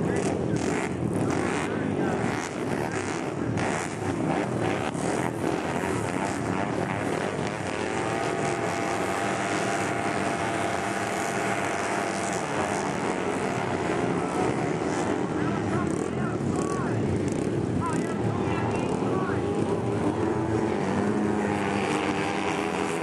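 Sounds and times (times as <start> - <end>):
motorcycle engines revving together: 0.0 - 23.0.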